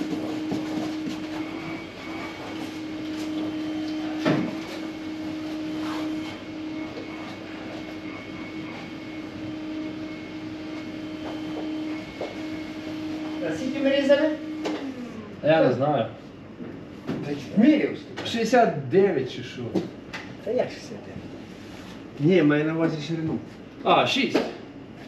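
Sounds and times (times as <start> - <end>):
steady machine hum: 0.0 - 25.0.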